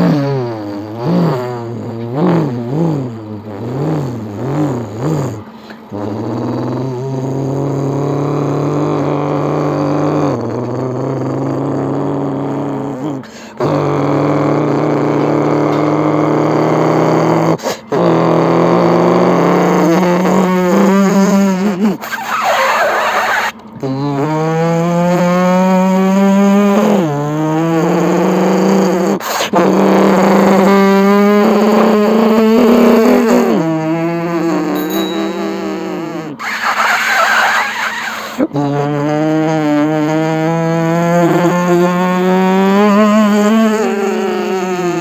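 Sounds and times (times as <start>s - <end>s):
person imitating race car engine: 0.0s - 45.0s.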